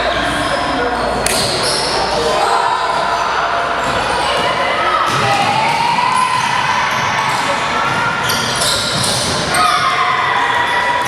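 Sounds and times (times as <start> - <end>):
crowd voices din: 0.0 - 11.0.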